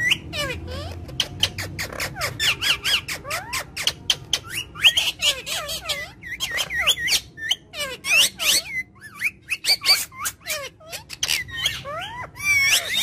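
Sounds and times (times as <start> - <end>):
parrot chirping and whistling: 0.0 - 13.0.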